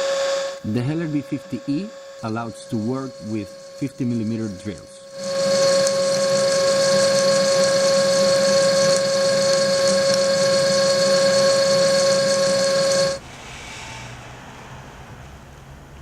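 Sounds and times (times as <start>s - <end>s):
drilling machine whining: 0.0s - 13.2s.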